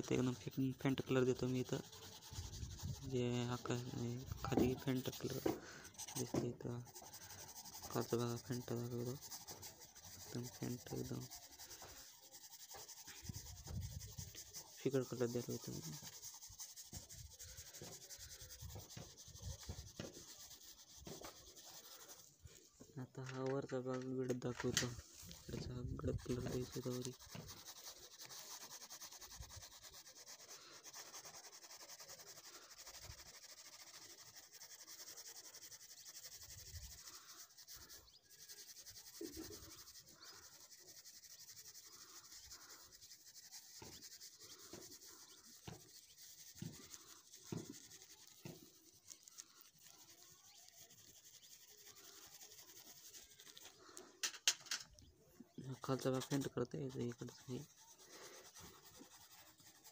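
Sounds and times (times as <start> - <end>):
pencil rubbing on paper: 0.0 - 54.0, 55.5 - 59.9.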